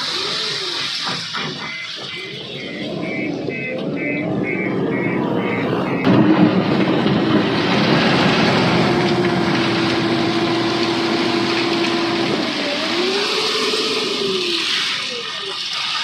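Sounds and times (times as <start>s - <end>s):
diesel engine running and revving: 0.0s - 16.0s.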